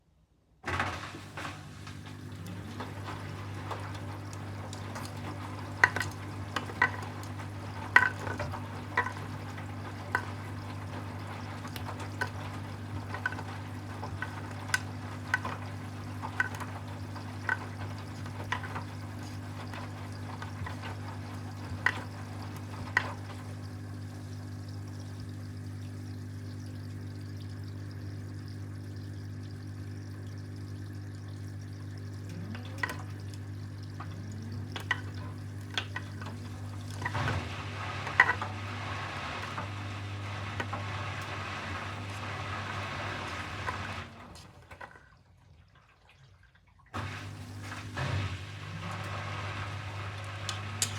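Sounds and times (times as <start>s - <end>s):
washing machine spinning hum: 0.4s - 50.9s.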